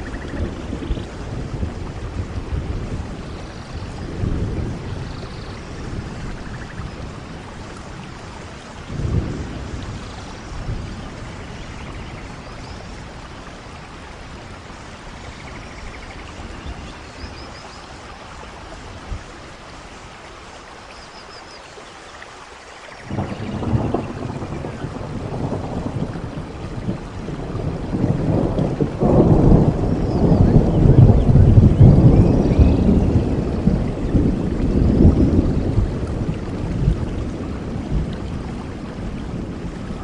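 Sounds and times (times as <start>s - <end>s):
rain hissing: 0.0s - 40.0s.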